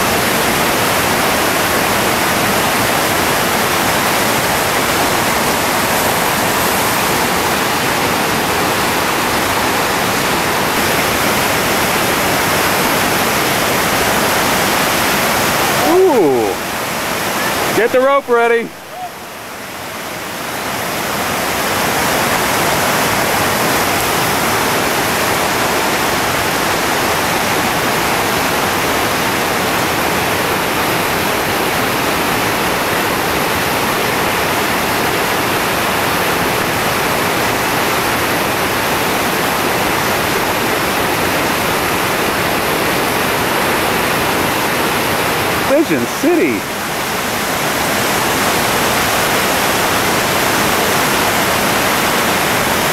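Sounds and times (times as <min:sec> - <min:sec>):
river rapids rushing: 0:00.0 - 0:52.9.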